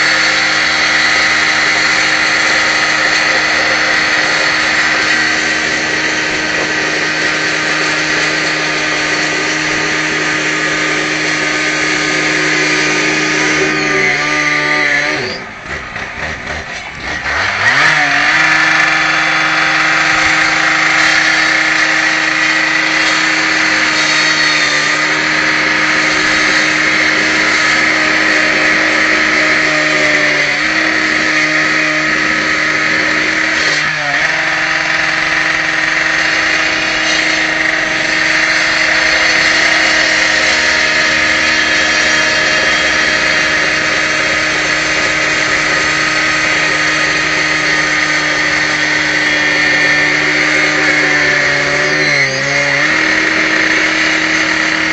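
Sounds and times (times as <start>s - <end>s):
cut-off saw engine running: 0.0s - 54.9s.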